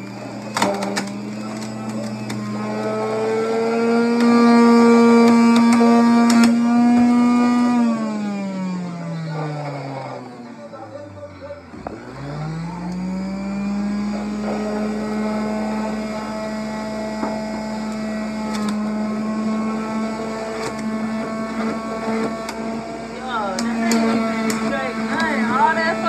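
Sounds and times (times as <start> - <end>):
electric juicer motor whine: 0.0 - 26.0.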